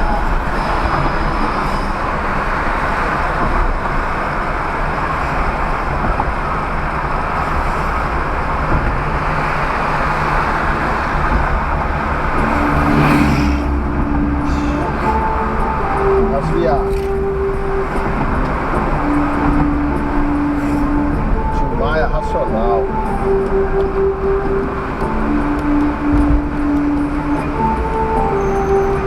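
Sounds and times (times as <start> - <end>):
vehicle and road noise: 0.0 - 29.0.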